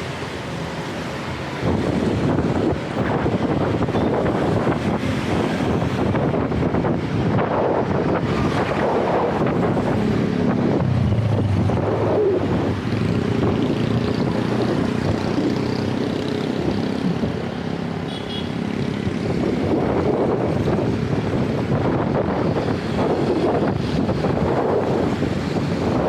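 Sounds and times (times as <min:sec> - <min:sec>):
traffic engine hum: 0:00.0 - 0:26.0
wind buffeting microphone: 0:01.2 - 0:18.0, 0:18.6 - 0:26.0.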